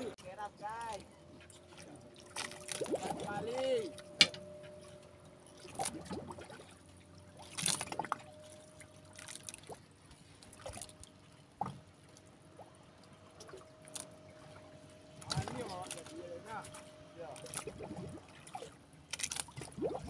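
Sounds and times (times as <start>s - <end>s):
faint steady hum: 0.0s - 20.0s
water lapping against boat: 0.0s - 20.0s
water splashes: 0.0s - 20.0s.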